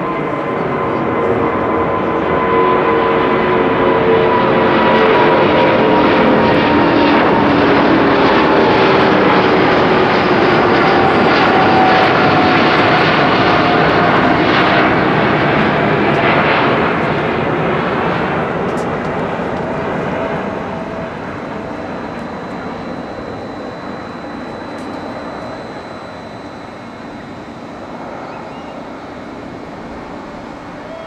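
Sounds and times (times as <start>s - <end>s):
jet airliner taking off overhead: 0.0s - 31.0s.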